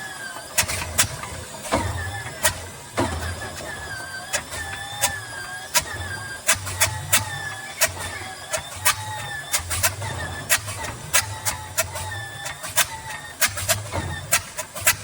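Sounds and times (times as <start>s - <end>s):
aircraft engine starting with pops: 0.0s - 15.0s.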